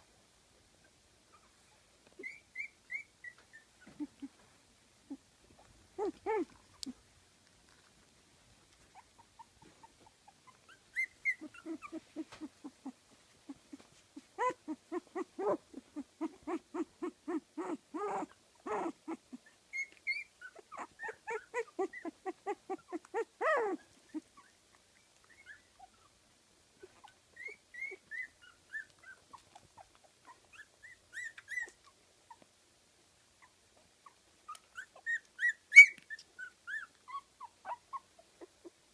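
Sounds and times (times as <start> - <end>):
puppies whimpering and squeaking: 2.2 - 4.5, 5.9 - 7.0, 8.9 - 26.2, 26.8 - 32.4, 33.4 - 38.8.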